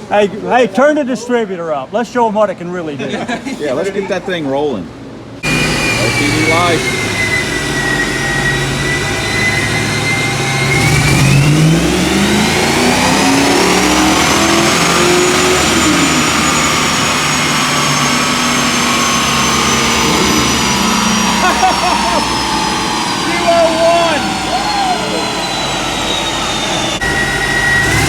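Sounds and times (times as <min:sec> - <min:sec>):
car engine revving: 0:05.4 - 0:28.0
high-pitched whine: 0:05.4 - 0:28.0.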